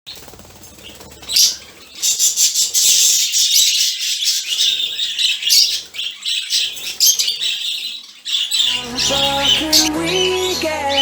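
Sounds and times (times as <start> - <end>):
budgerigars chattering and chirping: 0.1 - 11.0.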